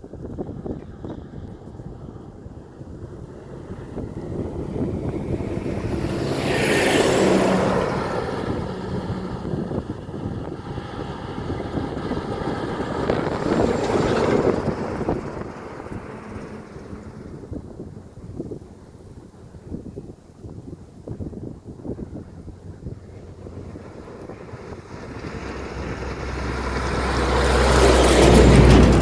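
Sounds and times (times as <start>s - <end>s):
lorries driving past: 0.0s - 29.0s
wind buffeting microphone: 0.0s - 29.0s.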